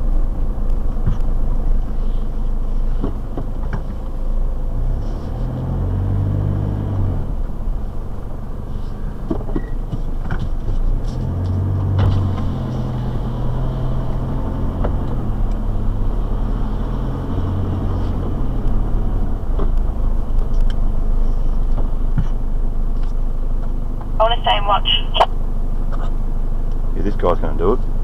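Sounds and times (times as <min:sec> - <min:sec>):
engine running at low revs: 0:00.0 - 0:28.0.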